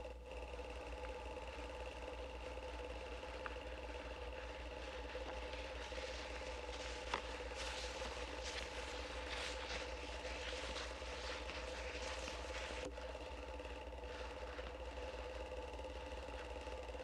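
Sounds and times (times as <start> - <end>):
machine hum with hiss: 0.0 - 17.0.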